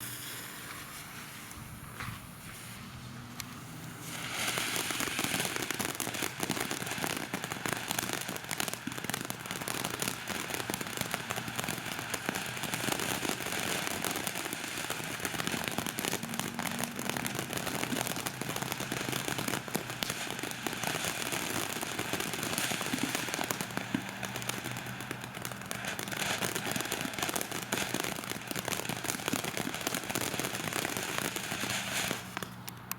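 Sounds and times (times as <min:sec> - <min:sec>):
firework fountain hissing and crackling: 0:00.0 - 0:32.9.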